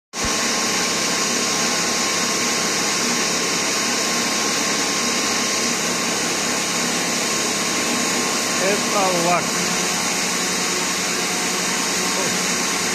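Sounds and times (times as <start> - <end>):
rushing air with whine: 0.2 - 12.9.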